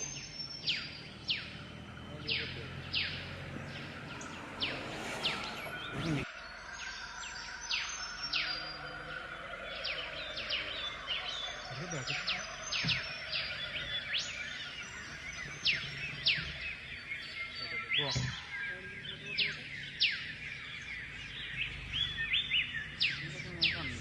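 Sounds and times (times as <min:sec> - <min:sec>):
forest birds chirping: 0:00.0 - 0:24.0.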